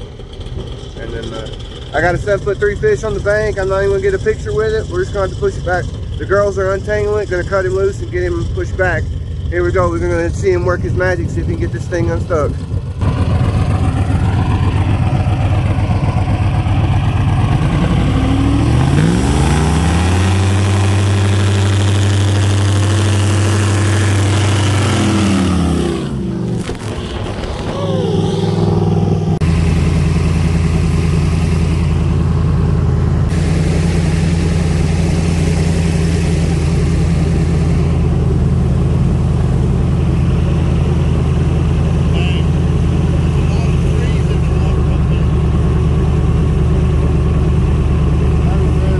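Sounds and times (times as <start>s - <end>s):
airboat engine and propeller revving: 0.0s - 48.9s.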